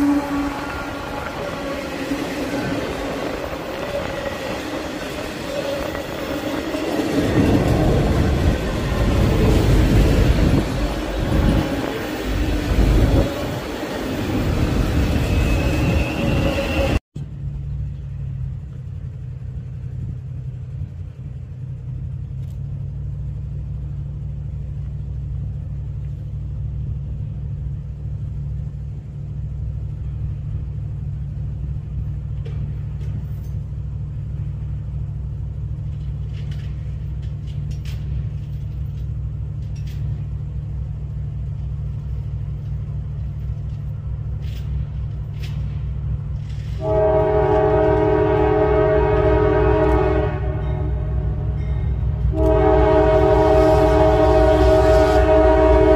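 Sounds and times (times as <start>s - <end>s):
diesel locomotive engine rumble: 0.0s - 55.9s.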